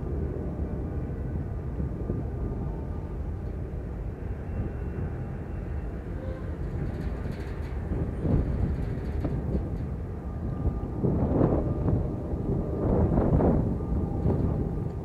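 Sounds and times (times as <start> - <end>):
distant freight train rumble: 0.0 - 15.0
wind gusts on microphone: 0.0 - 15.0.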